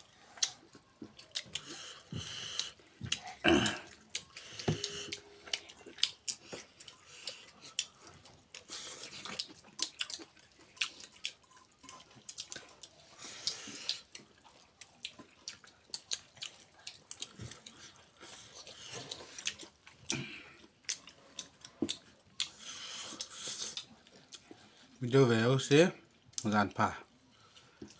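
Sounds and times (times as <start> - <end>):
man chewing with wet smacking: 0.0 - 27.9.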